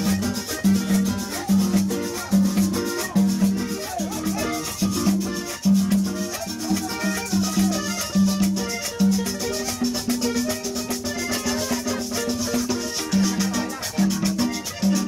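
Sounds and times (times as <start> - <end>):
button accordion melody: 0.0 - 15.0
conga drums: 0.0 - 15.0.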